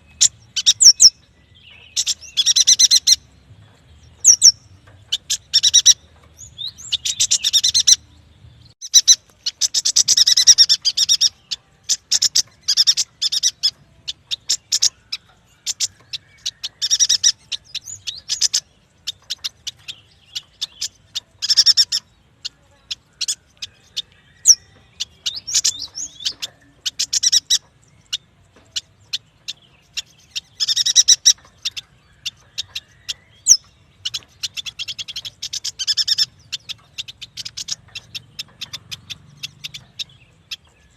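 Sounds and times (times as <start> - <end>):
bird rapid chattering song: 0.0 - 40.9.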